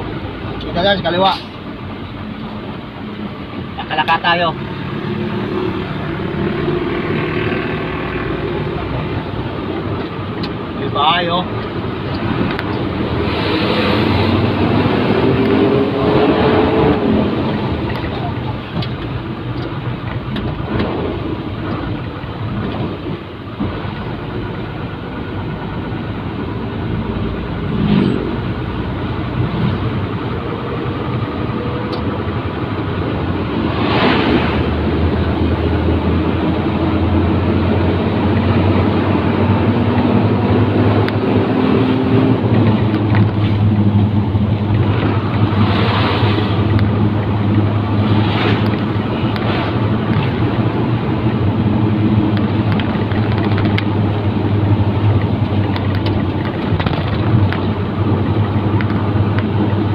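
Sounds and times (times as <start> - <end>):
oncoming vehicles passing: 0.0 - 59.9
road noise: 0.0 - 59.9
truck engine hum: 0.0 - 59.9.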